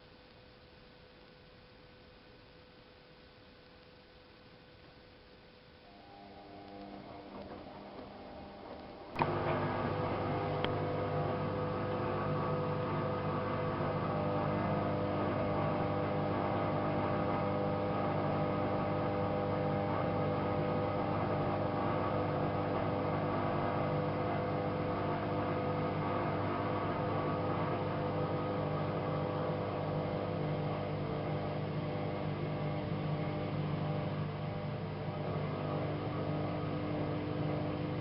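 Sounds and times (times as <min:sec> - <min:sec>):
washing machine motor hum: 0:05.8 - 0:38.0.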